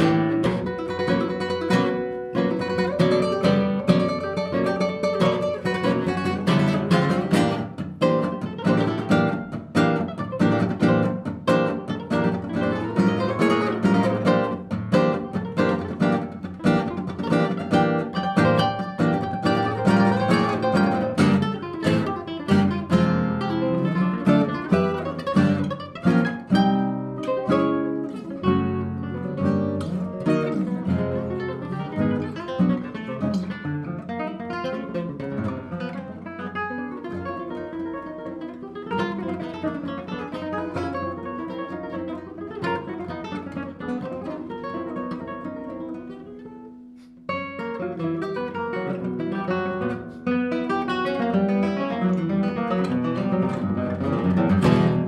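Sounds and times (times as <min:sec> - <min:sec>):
classical guitars playing tango: 0:00.0 - 0:55.0.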